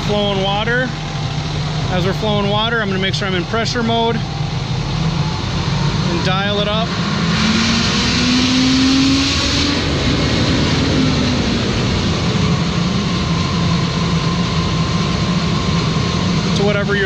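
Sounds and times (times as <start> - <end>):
diesel engine revving up: 0.0 - 17.0.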